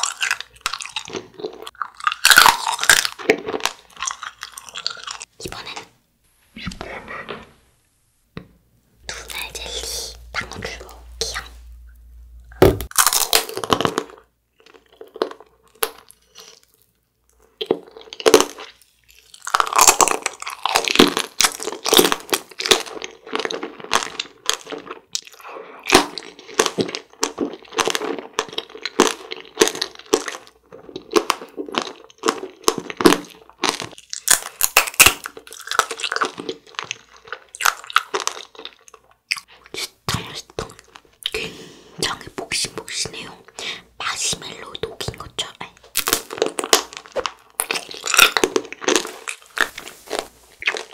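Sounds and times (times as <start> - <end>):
candy shell crunching: 0.0 - 5.8, 12.8 - 50.9
chewing soft jelly: 0.0 - 5.9, 12.8 - 50.9.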